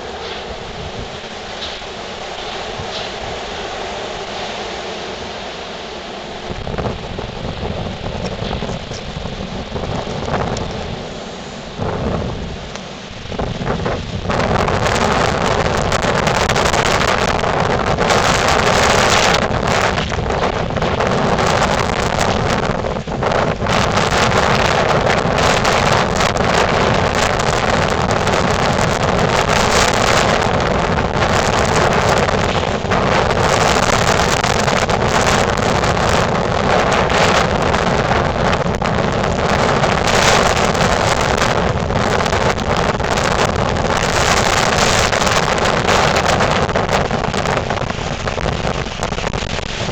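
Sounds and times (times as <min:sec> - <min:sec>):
wind blowing across microphone: 0:00.0 - 0:49.9.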